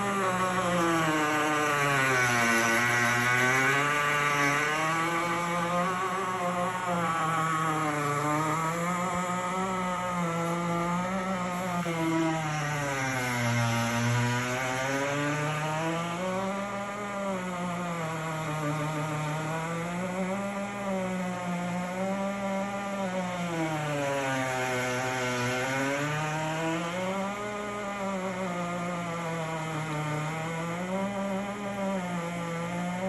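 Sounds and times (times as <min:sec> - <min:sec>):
ice maker squealing drone: 0:00.0 - 0:33.0.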